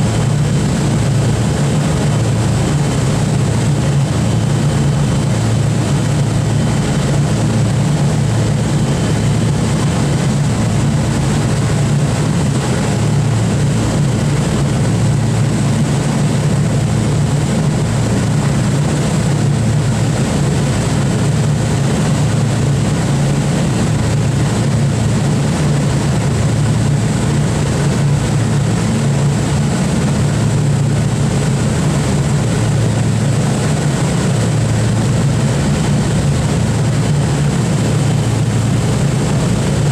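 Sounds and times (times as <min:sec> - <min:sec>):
aircraft propeller engines droning: 0:00.0 - 0:39.9.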